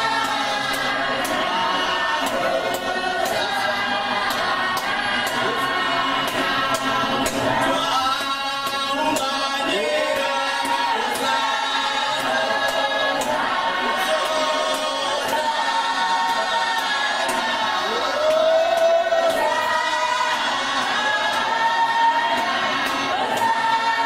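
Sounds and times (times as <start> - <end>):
choir singing unaccompanied: 0.0 - 24.0
hand claps: 0.0 - 24.0.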